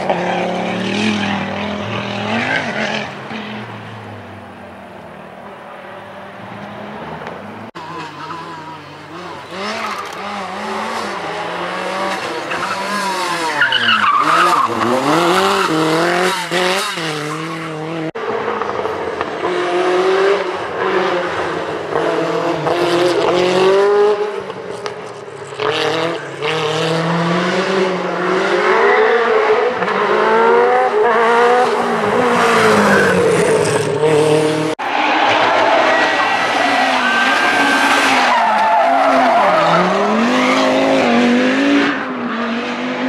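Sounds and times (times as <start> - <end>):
rally car engines at full throttle: 0.0 - 43.0.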